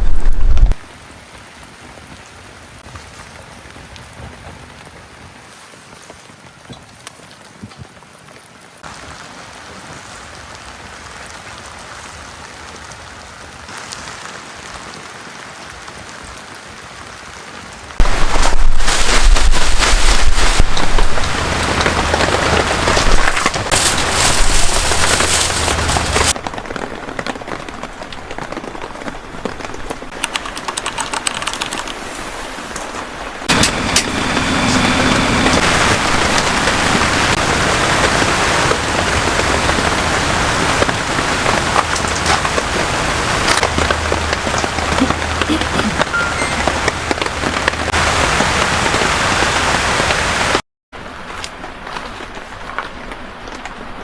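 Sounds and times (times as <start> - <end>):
heavy rain pouring: 0.0 - 4.0, 8.8 - 54.0.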